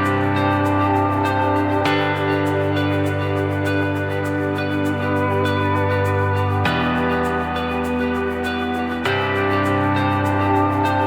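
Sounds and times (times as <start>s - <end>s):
plucked guitar: 0.0s - 11.0s
sustained chords: 0.0s - 11.0s.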